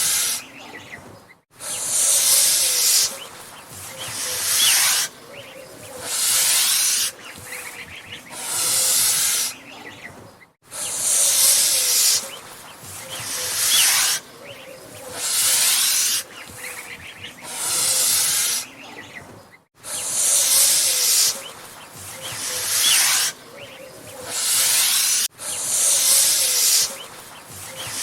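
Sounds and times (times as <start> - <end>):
goose hissing: 0.0 - 0.8, 1.6 - 9.8, 10.7 - 18.9, 19.8 - 28.0.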